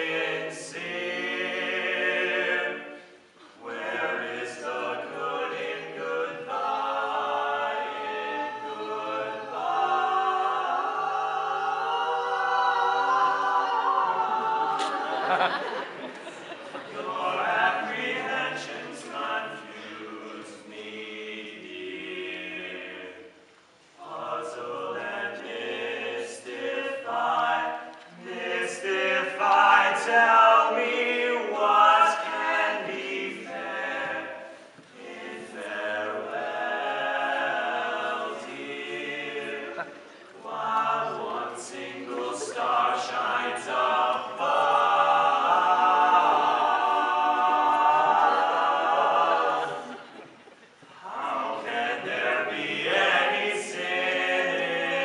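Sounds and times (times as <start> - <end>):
male quartet singing a cappella: 0.0 - 16.0, 16.7 - 23.3, 24.0 - 50.2, 50.9 - 55.0.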